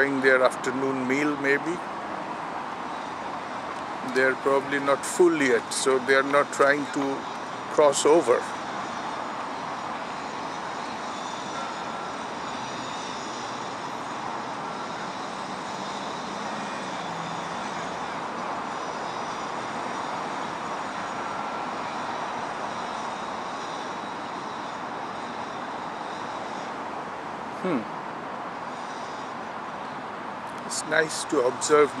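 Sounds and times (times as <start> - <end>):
distant city traffic: 0.0 - 32.0.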